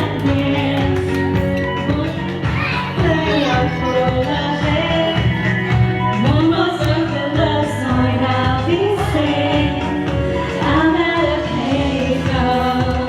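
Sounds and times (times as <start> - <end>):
pop music with singing: 0.0 - 13.0.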